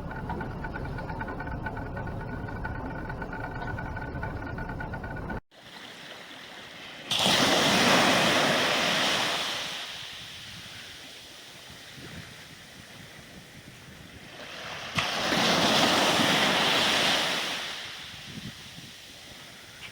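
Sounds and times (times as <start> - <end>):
sea waves breaking: 0.0 - 19.9.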